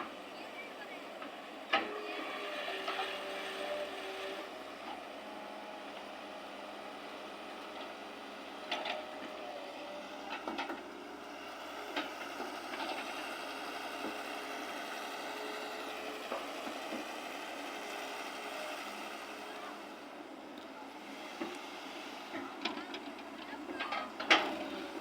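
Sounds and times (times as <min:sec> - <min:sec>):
excavator running: 0:00.0 - 0:25.0.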